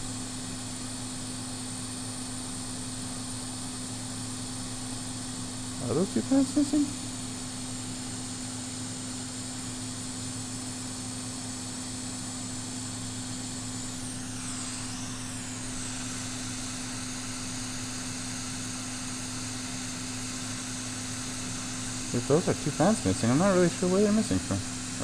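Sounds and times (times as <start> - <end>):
hot-air station humming and hissing: 0.0 - 25.0.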